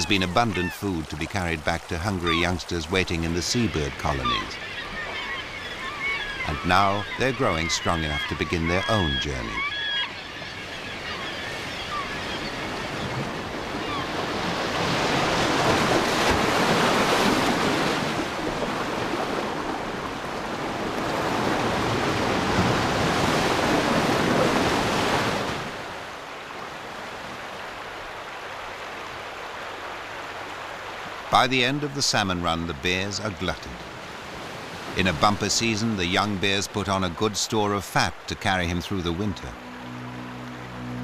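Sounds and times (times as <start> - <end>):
ocean waves breaking: 0.0 - 41.0.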